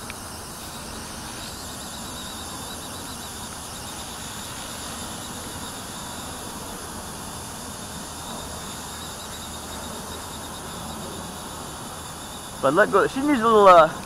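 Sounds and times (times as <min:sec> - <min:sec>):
rc helicopter whine: 0:00.0 - 0:14.0.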